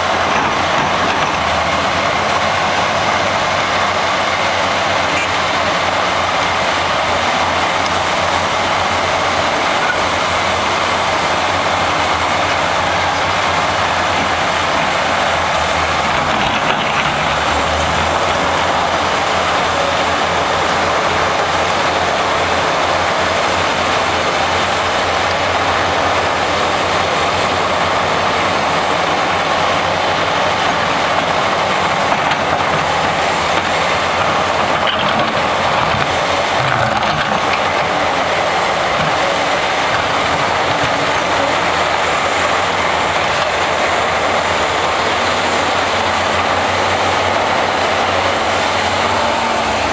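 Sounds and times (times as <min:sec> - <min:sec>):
excavator running: 0:00.0 - 0:49.9.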